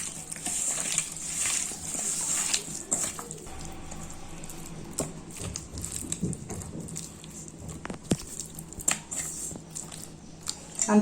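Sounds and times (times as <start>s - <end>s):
wet squishing of hands mixing meat: 0.0s - 11.0s.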